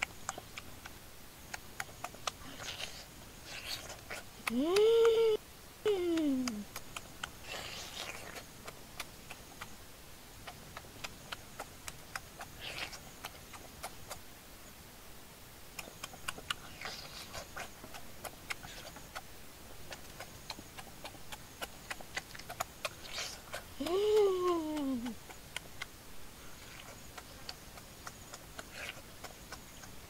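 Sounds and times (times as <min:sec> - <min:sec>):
person chewing wetly: 0:00.0 - 0:05.3, 0:05.9 - 0:09.8, 0:10.4 - 0:14.2, 0:15.7 - 0:30.0.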